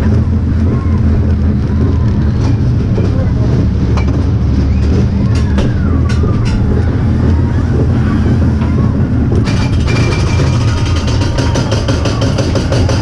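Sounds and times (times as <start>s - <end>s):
clicks and rattles: 0.0s - 13.0s
roller coaster wheels rumbling: 0.0s - 13.0s.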